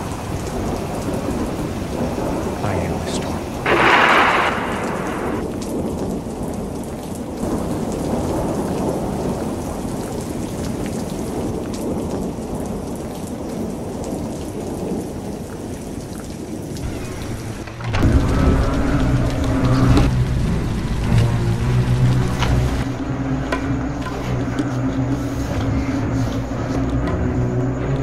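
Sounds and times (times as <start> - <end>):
heavy rain: 0.0 - 28.0
thunder rumbling: 0.0 - 28.0.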